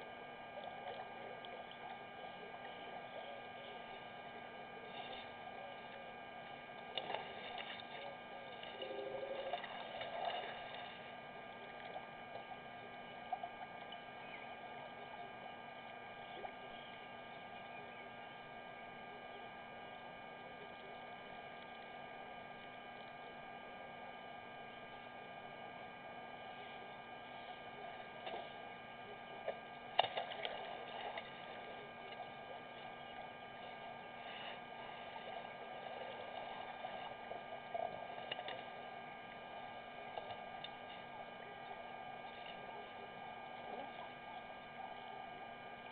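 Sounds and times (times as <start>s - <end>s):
electrical hum with high whine: 0.0s - 45.9s.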